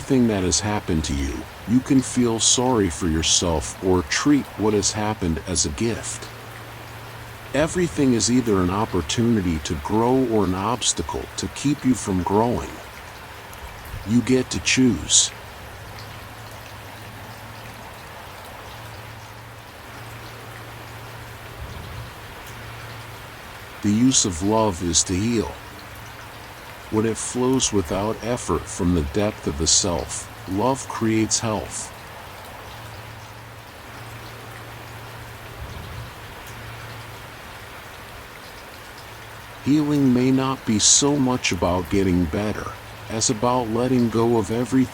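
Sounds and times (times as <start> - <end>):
rain hissing: 0.0 - 44.9
raindrop ticks: 0.0 - 44.9.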